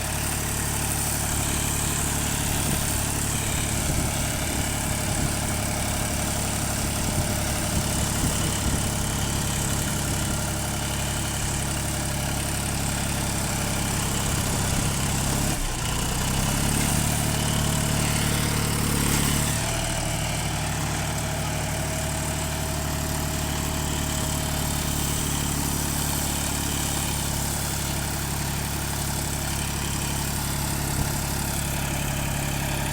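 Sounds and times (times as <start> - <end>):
tractor diesel engine: 0.0 - 32.9.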